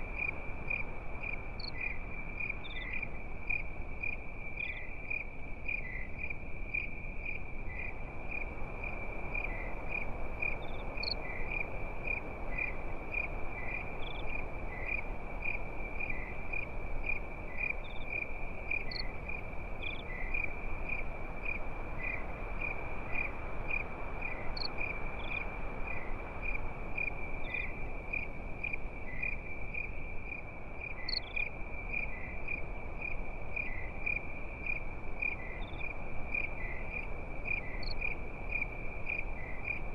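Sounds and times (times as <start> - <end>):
crickets chirping: 0.0 - 39.9
steady low hiss: 0.0 - 39.9.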